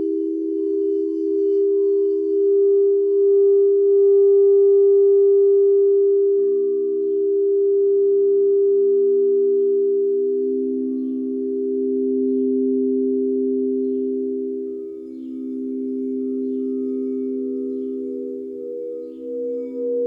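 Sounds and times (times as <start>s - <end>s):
lower singing bowl tone: 0.0s - 20.0s
singing bowls ringing: 0.0s - 20.0s.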